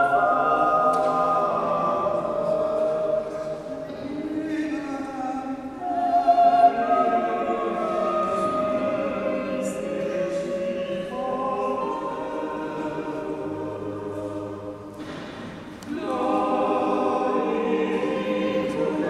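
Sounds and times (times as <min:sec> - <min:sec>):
choir singing held notes: 0:00.0 - 0:19.0.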